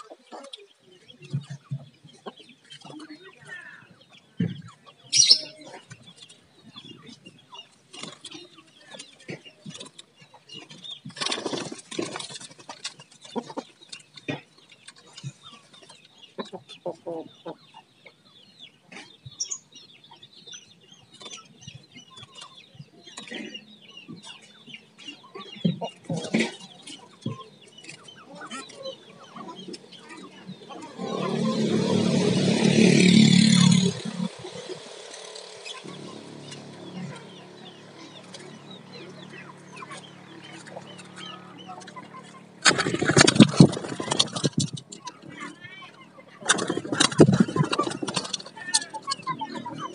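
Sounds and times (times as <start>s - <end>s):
birds chirping and squawking: 0.0s - 49.9s.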